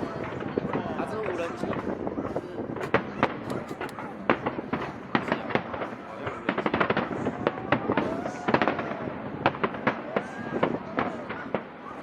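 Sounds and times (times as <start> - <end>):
crowd voices: 0.0 - 12.0
fireworks cracking and banging: 0.0 - 12.0.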